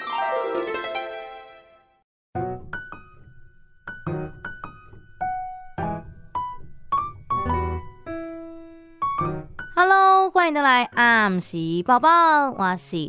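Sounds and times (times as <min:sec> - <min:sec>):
piano notes and chords: 0:00.0 - 0:12.3.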